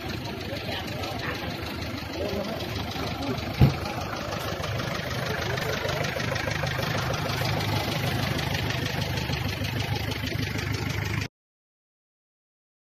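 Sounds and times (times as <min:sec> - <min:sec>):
vehicle engine idling: 0:00.0 - 0:11.3.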